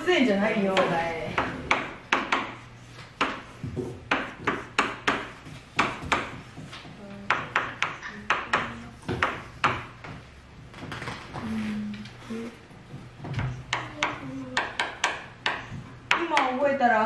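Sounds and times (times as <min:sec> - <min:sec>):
pens tapping on paper: 0:00.6 - 0:12.2, 0:12.9 - 0:16.6.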